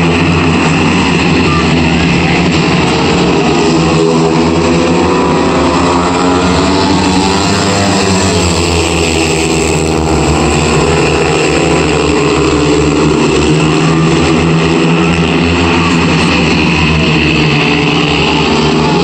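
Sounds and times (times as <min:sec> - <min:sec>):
motorcycle engines racing: 0:00.0 - 0:19.0.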